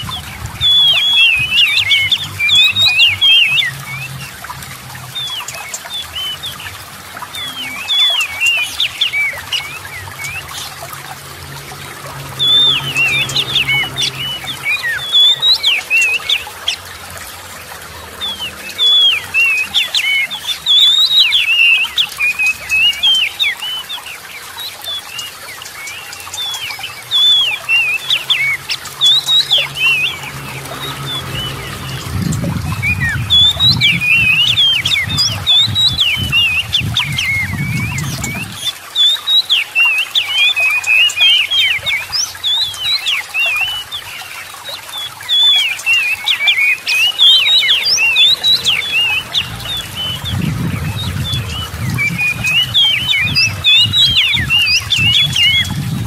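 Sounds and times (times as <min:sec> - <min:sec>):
bird singing chirps and whistles: 0:00.0 - 0:04.4, 0:05.1 - 0:10.8, 0:12.4 - 0:16.9, 0:18.2 - 0:56.0.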